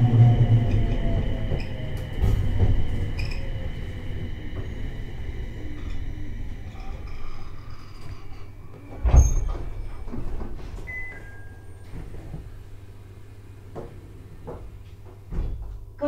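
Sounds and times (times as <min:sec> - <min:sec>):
train doors clunking: 0:00.0 - 0:15.8
low equipment hum: 0:00.0 - 0:16.0.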